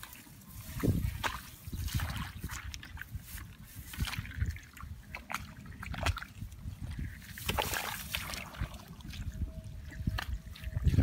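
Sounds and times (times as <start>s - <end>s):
squelching in mud and water: 0.0s - 11.0s.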